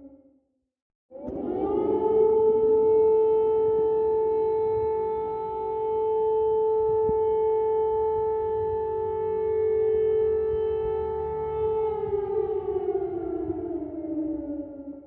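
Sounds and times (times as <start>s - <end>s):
air-raid siren wailing: 1.2s - 15.0s.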